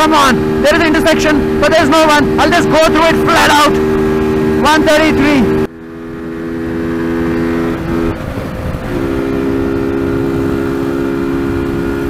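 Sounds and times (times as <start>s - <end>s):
motorcycle engine at high revs: 0.0s - 12.0s
wind rushing over microphone: 0.0s - 12.0s.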